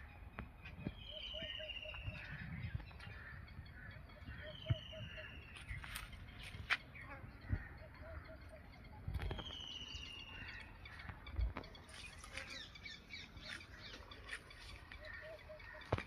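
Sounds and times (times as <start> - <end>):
birds chirping and calling: 0.0 - 16.0
bird trill: 0.9 - 16.0.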